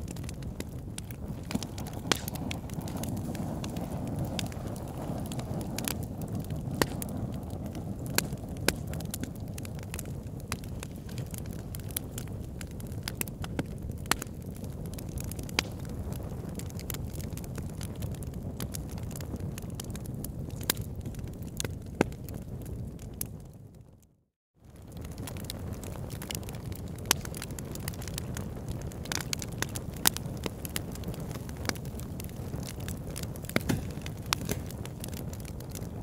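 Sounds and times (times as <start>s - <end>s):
wood fire crackling: 0.0s - 23.8s, 24.6s - 36.0s.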